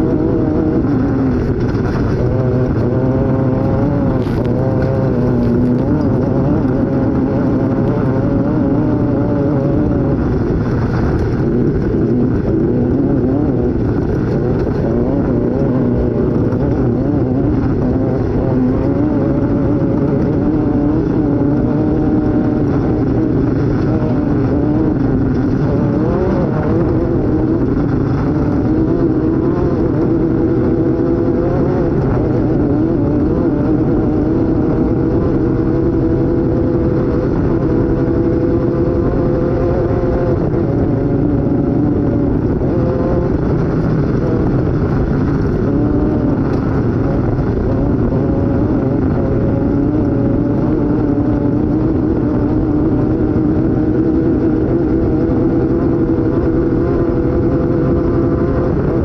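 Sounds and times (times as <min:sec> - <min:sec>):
race vehicle engine revving: 0:00.0 - 0:59.0.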